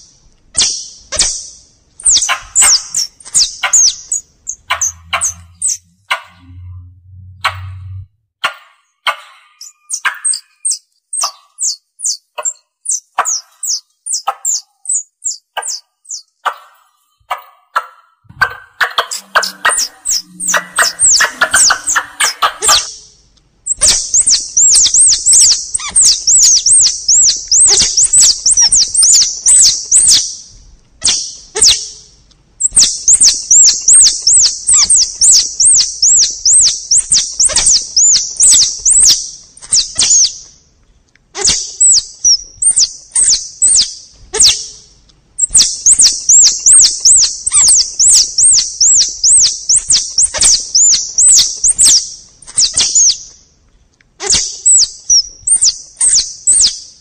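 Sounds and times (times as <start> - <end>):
high-pitched squirrel chirping: 0.5 - 6.8, 7.4 - 16.7, 17.3 - 23.1, 23.7 - 40.5, 41.4 - 44.8, 45.4 - 53.3, 54.2 - 57.0.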